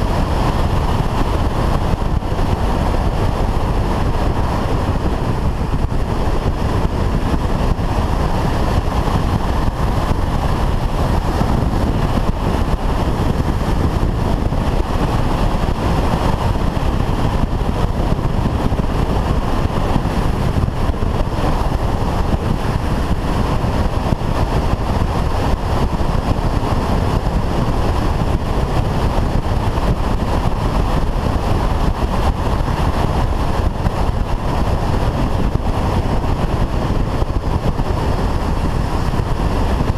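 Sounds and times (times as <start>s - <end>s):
wind rush over camera: 0.0s - 39.9s.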